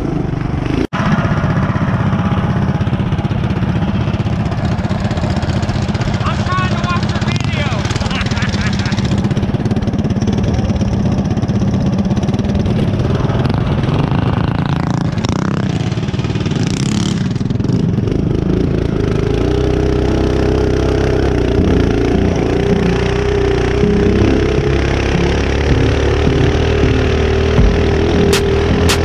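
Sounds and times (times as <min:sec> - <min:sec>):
mini bike engine running: 0:01.0 - 0:29.0.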